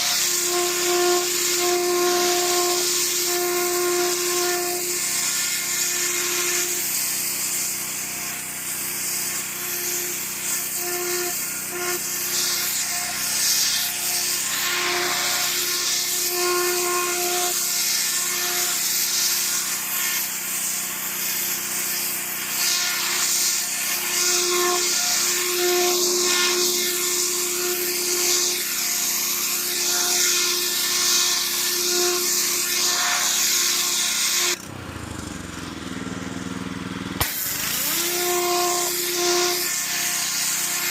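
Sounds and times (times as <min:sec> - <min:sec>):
pressure washer motor hum: 0:00.0 - 0:40.9.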